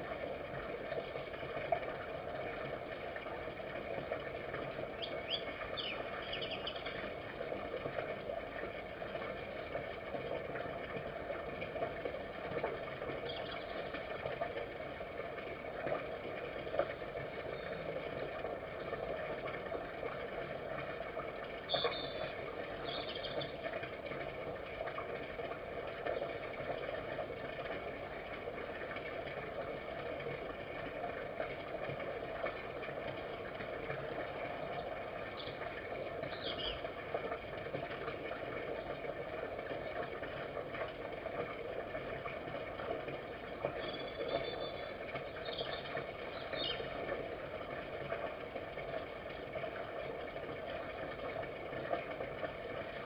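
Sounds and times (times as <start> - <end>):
background hiss and hum: 0.0 - 53.0.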